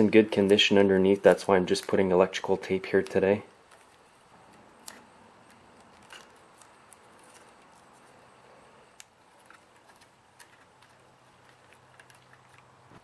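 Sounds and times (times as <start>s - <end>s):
tape crinkling and clicking: 0.0s - 13.0s.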